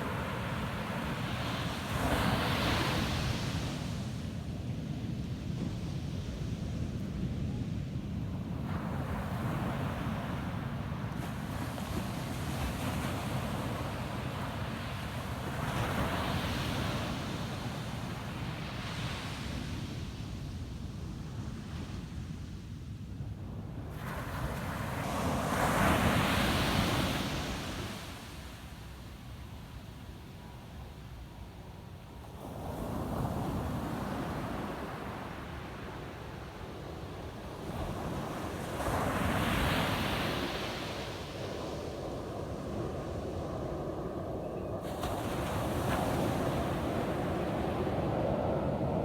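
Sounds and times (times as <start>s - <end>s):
ocean waves breaking on sand: 0.0s - 20.4s, 23.8s - 31.2s, 32.0s - 49.0s
low rumble of surf: 0.0s - 49.0s.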